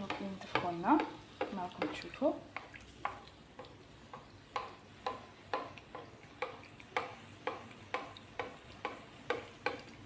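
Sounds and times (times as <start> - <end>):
dough sizzling in hot oil: 0.0 - 10.0.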